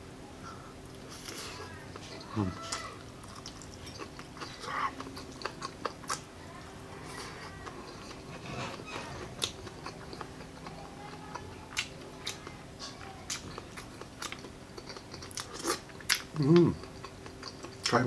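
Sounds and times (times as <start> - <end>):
person chewing food: 0.8 - 18.0.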